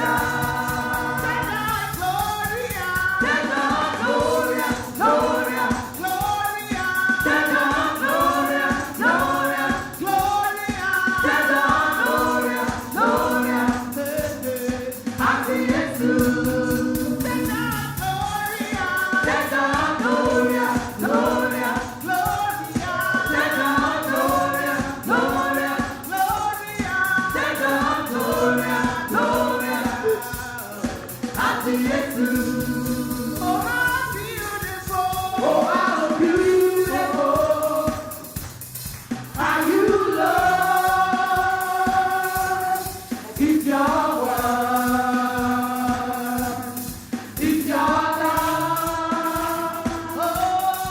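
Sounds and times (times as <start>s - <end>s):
instrumental accompaniment with beat: 0.0s - 50.9s
voices singing together: 0.0s - 50.9s.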